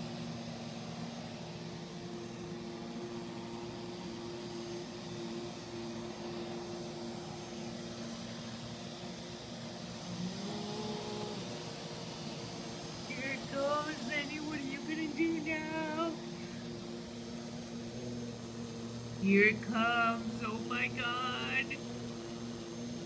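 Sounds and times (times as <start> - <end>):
robot vacuum motor whirring: 0.0 - 23.0.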